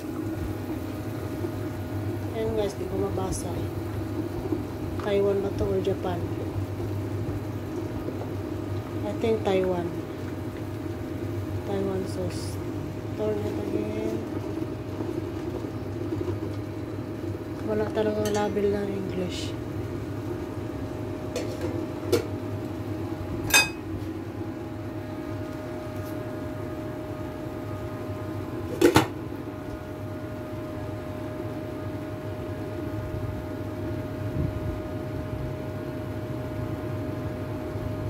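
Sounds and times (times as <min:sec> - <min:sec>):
machine hum: 0:00.0 - 0:38.0.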